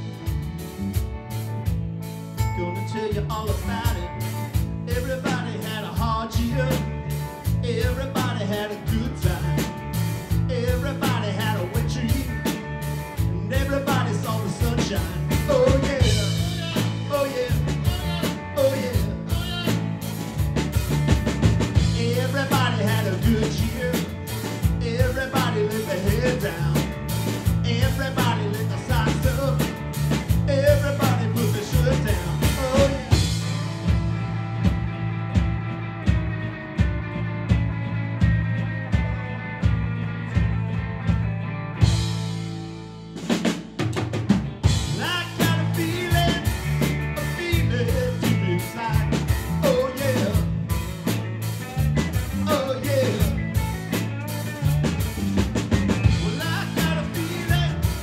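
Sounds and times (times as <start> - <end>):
drum kit steady beat: 0.0 - 58.0
electric bass: 0.0 - 58.0
electric guitar lead: 0.0 - 58.0.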